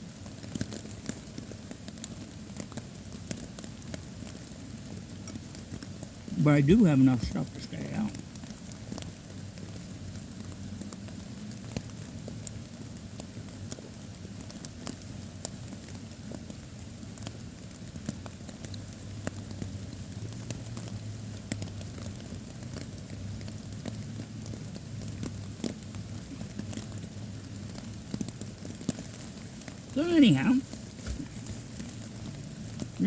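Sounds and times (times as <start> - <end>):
raindrops pattering: 0.0 - 33.0.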